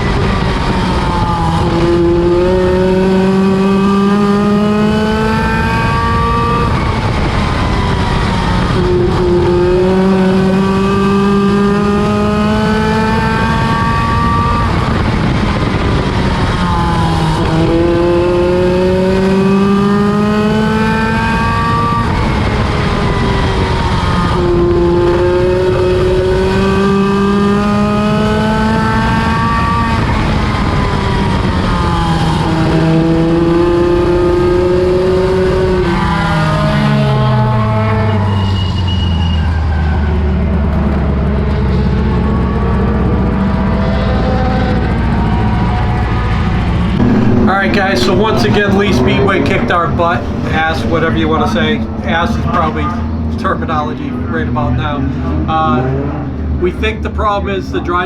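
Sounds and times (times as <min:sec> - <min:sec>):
race car engine accelerating: 0:00.0 - 0:57.8.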